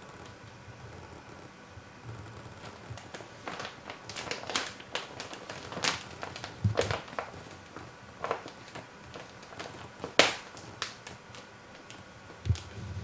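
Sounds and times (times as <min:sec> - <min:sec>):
plastic sheeting crinkling: 0:02.3 - 0:13.0.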